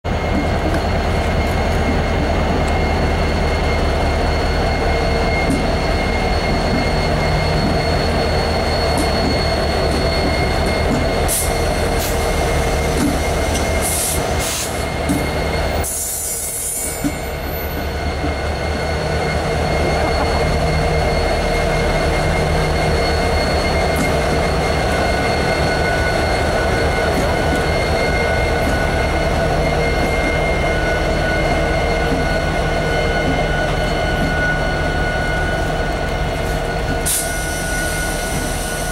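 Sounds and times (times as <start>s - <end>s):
diesel locomotives passing: 0.1s - 38.9s
high-pitched whine: 0.2s - 38.9s.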